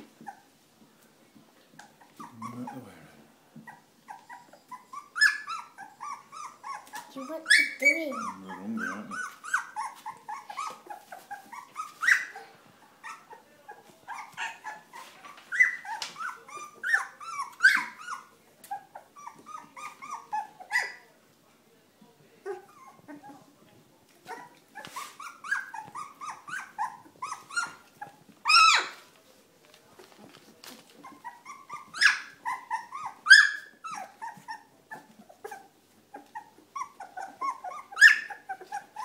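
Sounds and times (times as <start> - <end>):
puppies squeaking: 0.0 - 0.6, 1.7 - 3.0, 3.6 - 21.1, 22.4 - 23.5, 24.2 - 29.2, 30.0 - 39.0.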